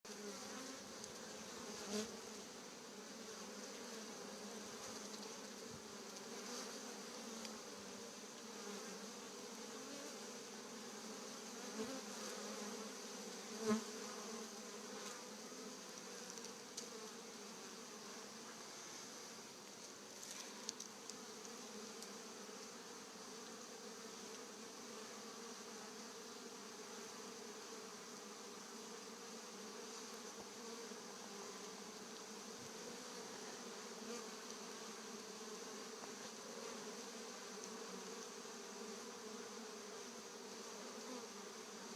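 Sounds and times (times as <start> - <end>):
bees buzzing: 0.1 - 41.9.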